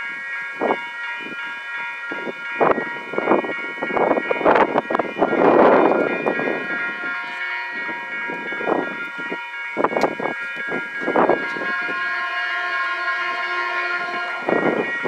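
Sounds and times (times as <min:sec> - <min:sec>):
train wheels clattering on rails: 0:02.1 - 0:15.0.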